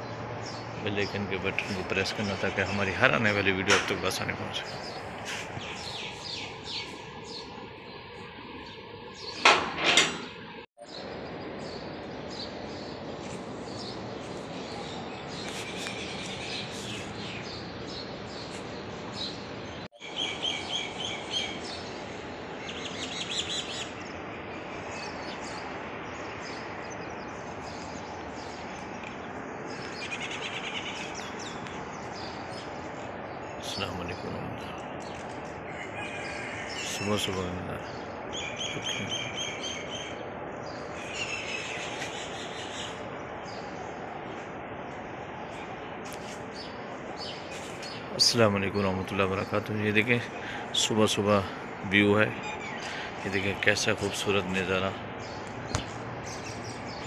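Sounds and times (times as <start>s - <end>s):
birds chirping: 0.0s - 57.0s
steady outdoor hiss: 0.0s - 57.0s.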